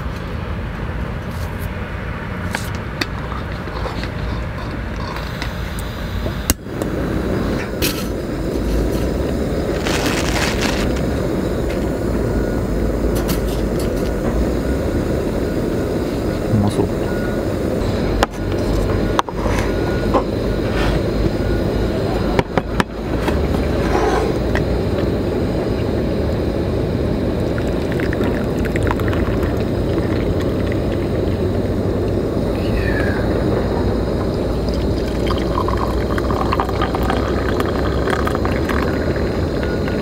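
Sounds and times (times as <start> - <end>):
gas burner roaring: 0.0 - 40.0.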